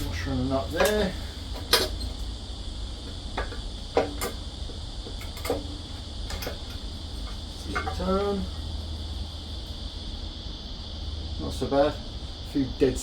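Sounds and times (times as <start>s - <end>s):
high-pitched background hum: 0.0s - 13.0s.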